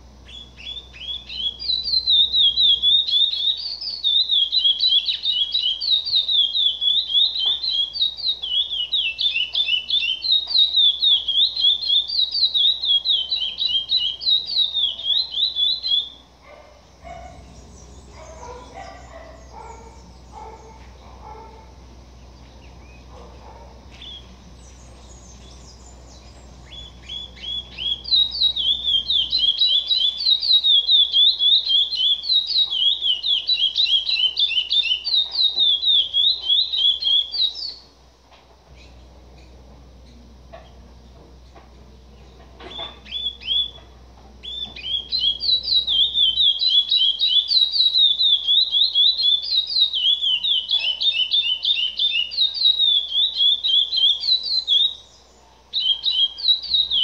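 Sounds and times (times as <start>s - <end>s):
faint bird chirps: 0.1s - 38.0s, 38.7s - 57.0s
finch singing whistled notes: 0.2s - 16.3s, 17.0s - 37.9s, 42.1s - 57.0s.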